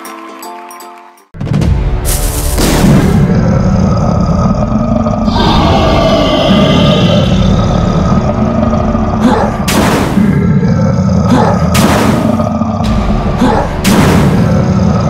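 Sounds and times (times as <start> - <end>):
background music: 0.0 - 15.0
monster roar: 2.9 - 15.0.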